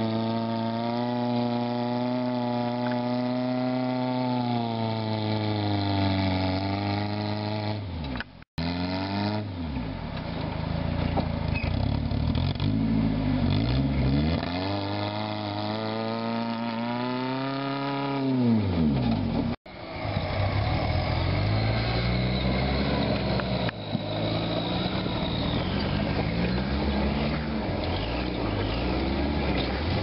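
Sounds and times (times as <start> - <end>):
buggy engine revving: 0.0 - 30.0.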